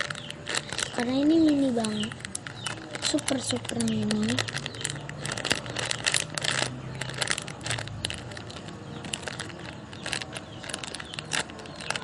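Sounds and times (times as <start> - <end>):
foam toy clicking and crackling: 0.0 - 12.0.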